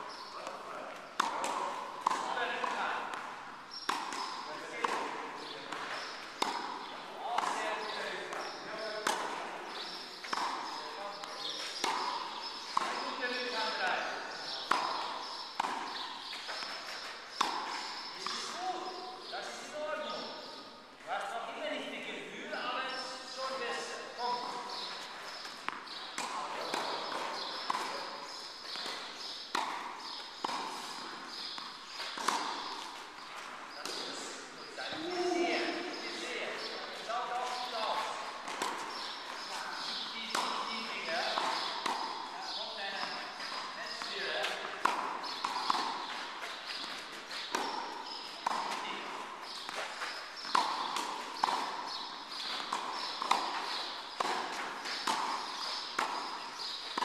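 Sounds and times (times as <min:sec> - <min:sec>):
tennis balls struck and bouncing: 0:00.0 - 0:21.6, 0:22.6 - 0:57.0.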